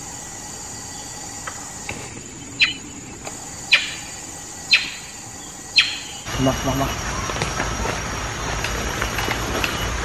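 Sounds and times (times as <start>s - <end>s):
high hiss of insects: 0.0s - 10.0s.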